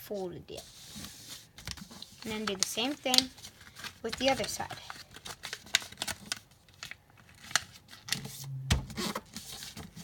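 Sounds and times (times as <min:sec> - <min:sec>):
paper rustling and crinkling: 0:00.6 - 0:10.0.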